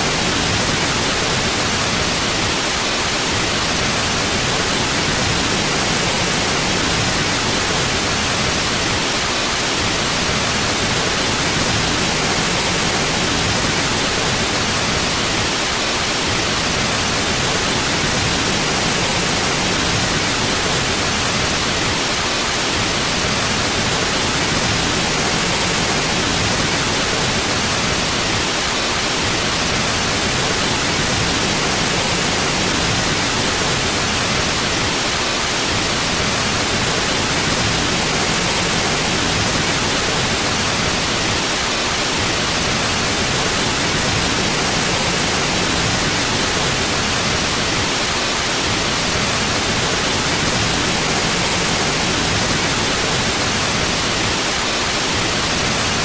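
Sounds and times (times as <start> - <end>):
electronic white noise: 0.0 - 56.0.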